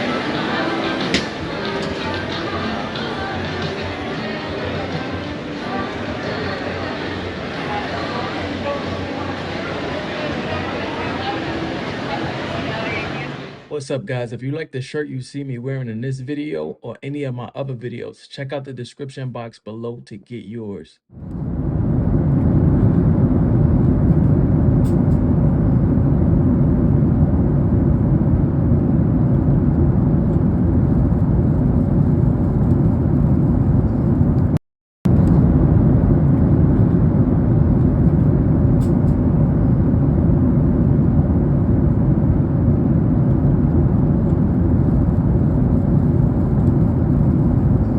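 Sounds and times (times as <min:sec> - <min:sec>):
steady low rumble: 0:00.0 - 0:13.8, 0:21.1 - 0:47.9.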